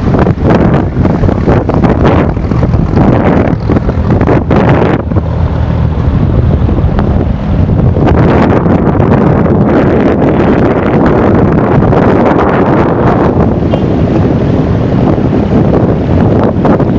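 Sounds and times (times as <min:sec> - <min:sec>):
low engine hum: 0:00.0 - 0:16.9
wind buffeting microphone: 0:00.0 - 0:16.9.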